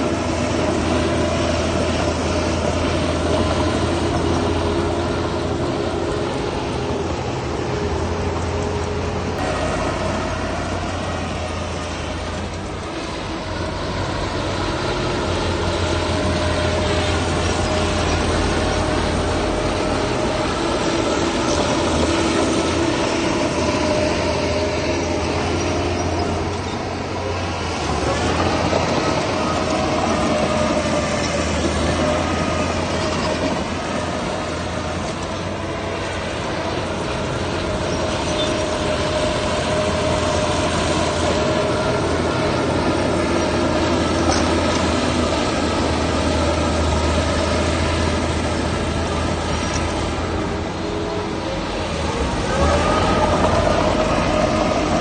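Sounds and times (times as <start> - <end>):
diesel machinery engine drone: 0.0 - 55.0
metallic whine: 0.0 - 55.0.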